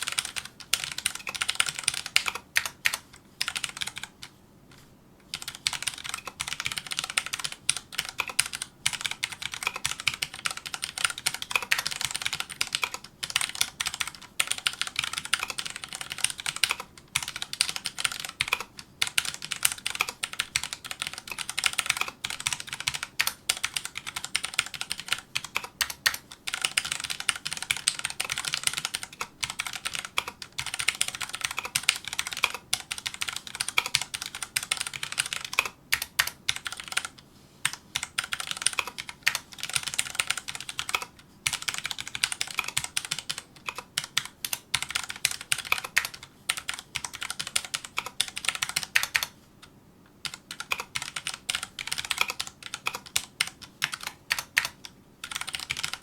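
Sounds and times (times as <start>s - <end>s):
fast typing on mechanical keyboard: 0.0s - 4.3s, 5.3s - 49.4s, 50.2s - 56.0s.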